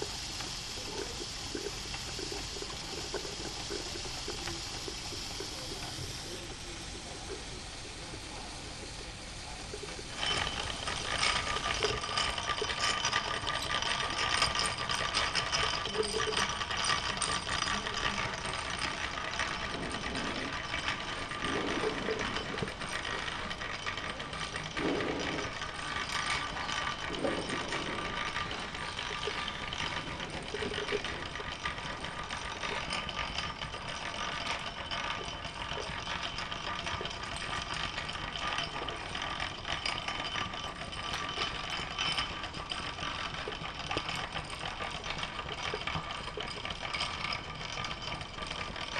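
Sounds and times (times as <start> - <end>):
toy steam engine clattering: 0.0 - 48.9.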